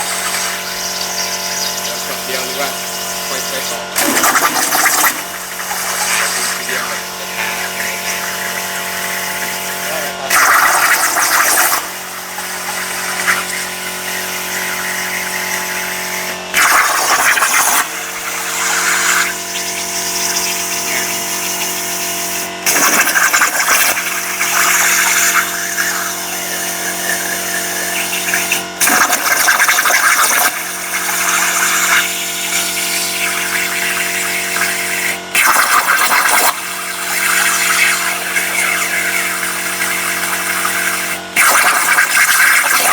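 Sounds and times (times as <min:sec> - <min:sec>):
machine humming: 0:00.0 - 0:42.9.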